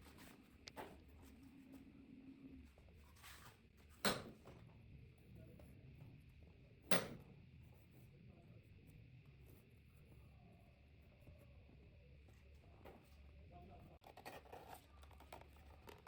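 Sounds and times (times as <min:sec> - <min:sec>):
workshop room tone: 0:00.0 - 0:16.0.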